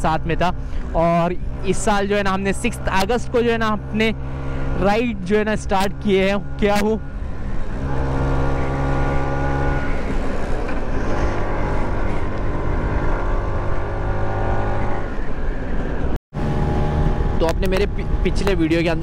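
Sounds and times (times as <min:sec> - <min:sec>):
wind and road rush: 0:00.0 - 0:19.0.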